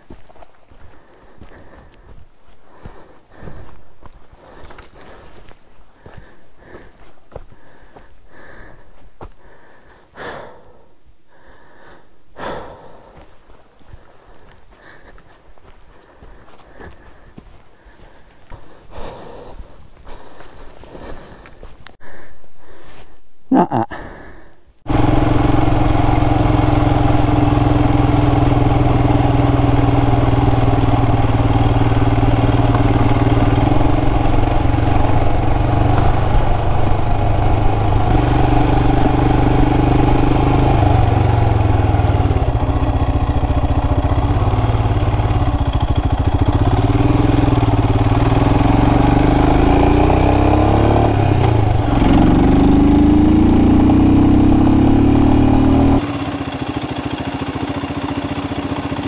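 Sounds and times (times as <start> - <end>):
motorcycle engine running: 0.0 - 10.8, 11.4 - 22.0, 24.9 - 59.0.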